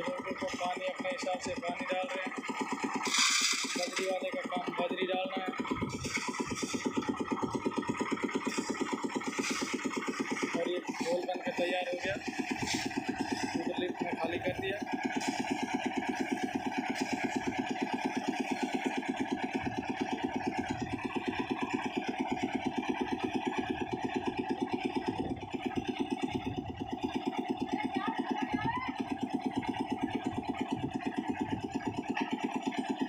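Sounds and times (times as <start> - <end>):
concrete mixer engine running: 0.0 - 33.0.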